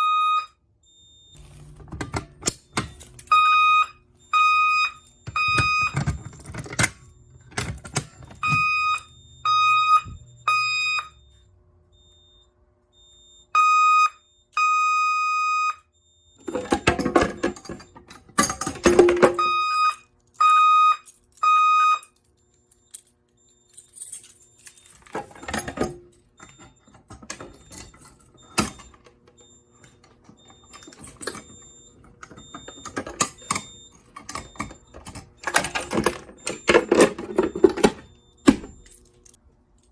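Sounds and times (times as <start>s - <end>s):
fire alarm tone pulses: 0.0s - 39.1s.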